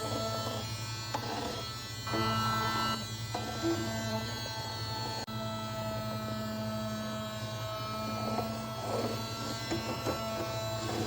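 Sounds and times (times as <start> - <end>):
handheld vacuum motor whining: 0.0 - 11.0.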